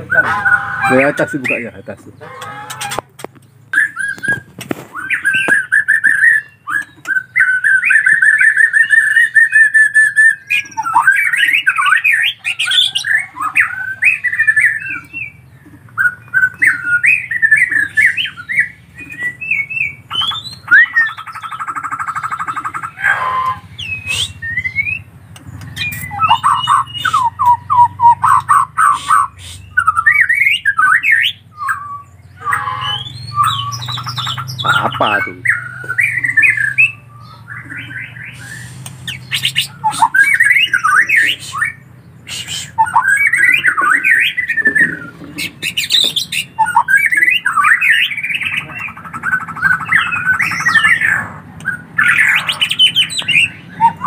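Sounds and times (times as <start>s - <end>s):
bird whistled song and trills: 0.0s - 2.9s, 3.7s - 54.0s.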